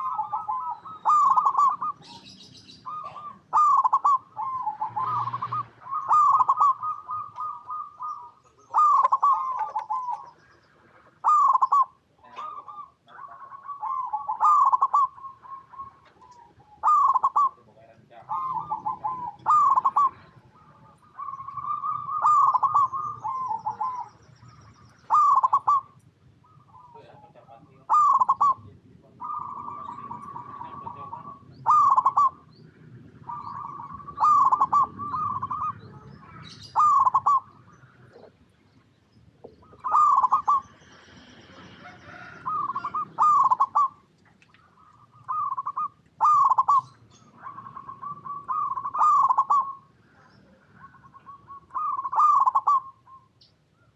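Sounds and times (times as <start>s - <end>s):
dove cooing: 0.0s - 38.5s, 39.3s - 53.9s.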